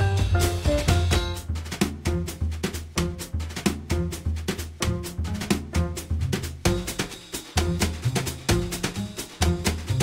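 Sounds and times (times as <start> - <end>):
drum kit and bass music: 0.0 - 10.0.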